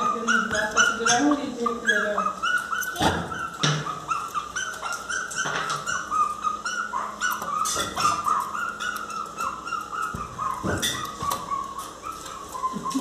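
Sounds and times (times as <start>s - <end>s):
puppy whining: 0.0s - 13.0s.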